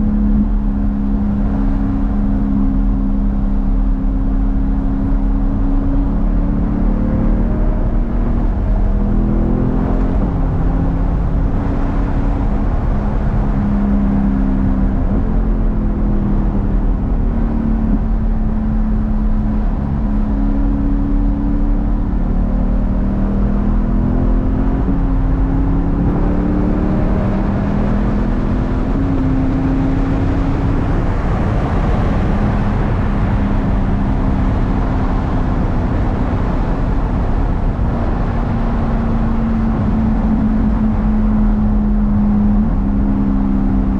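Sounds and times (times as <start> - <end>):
car engine exhaust note: 0.0 - 43.9.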